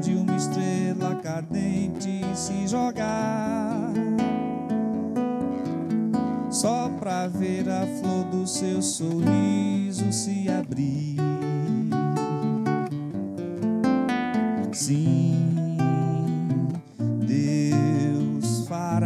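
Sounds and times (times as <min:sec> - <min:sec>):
man singing into microphone: 0:00.0 - 0:05.2, 0:06.5 - 0:12.7, 0:14.6 - 0:19.0
acoustic guitar strummed and picked: 0:00.0 - 0:19.0.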